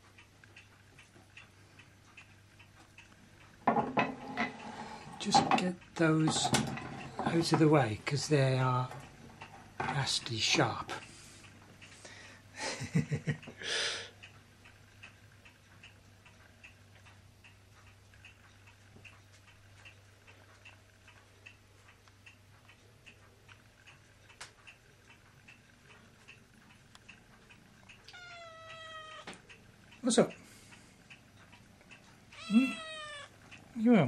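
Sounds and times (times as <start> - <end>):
clock ticking: 0.0 - 34.0.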